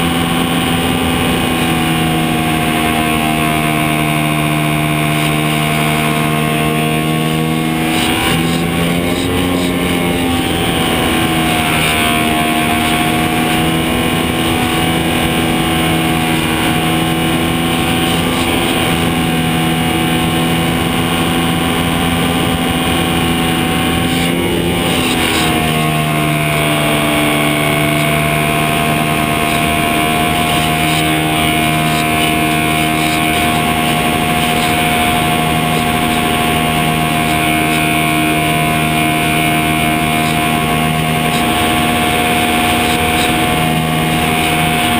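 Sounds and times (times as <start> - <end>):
model airplane motor whine: 0.0 - 44.9.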